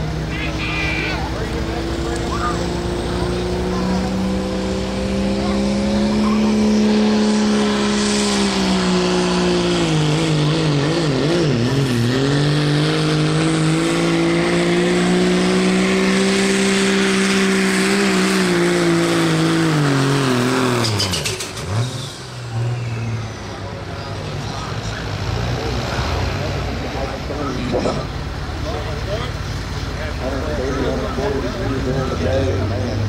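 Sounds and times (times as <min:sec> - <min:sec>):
diesel truck engine full throttle: 0:00.0 - 0:33.0.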